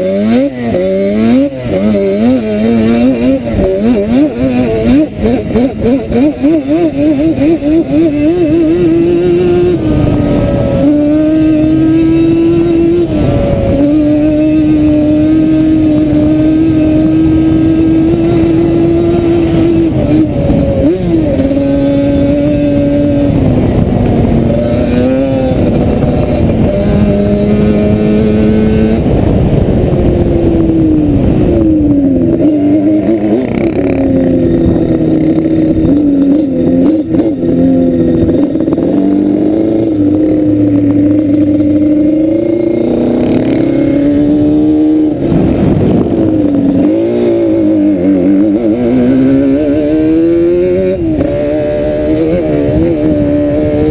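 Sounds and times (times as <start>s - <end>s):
quad engine running hard: 0.0s - 53.9s.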